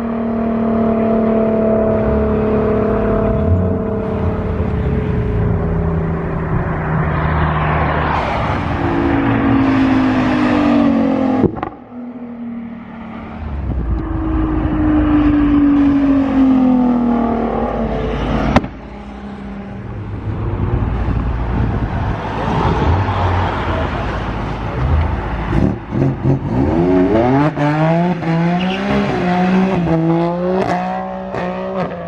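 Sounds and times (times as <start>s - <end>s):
sports car engines revving: 0.0s - 32.0s.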